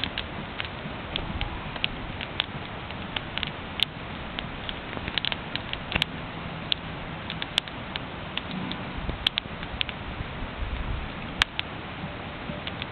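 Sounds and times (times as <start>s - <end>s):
bonfire crackling and popping: 0.0s - 11.7s.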